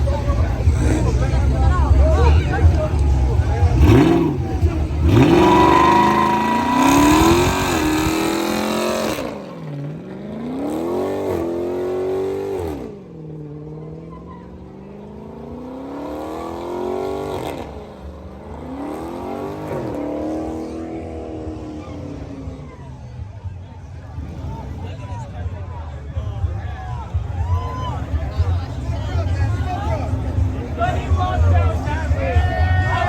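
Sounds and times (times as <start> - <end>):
loud car engines accelerating: 0.0 - 33.0.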